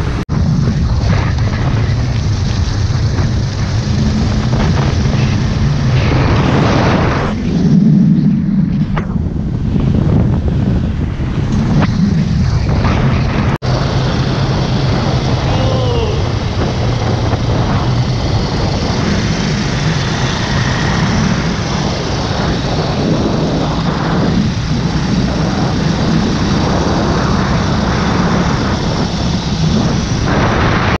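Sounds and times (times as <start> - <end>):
motorcycle engine running: 0.0 - 31.0
wind rushing over microphone: 0.0 - 31.0.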